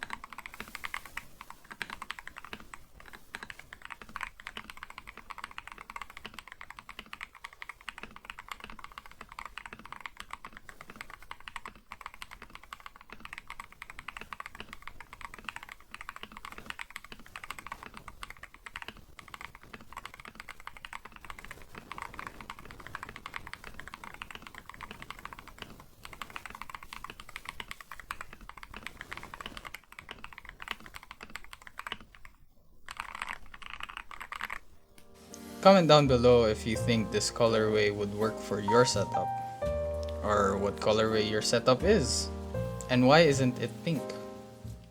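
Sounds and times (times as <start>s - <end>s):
mechanical keyboard typing: 0.0s - 44.9s.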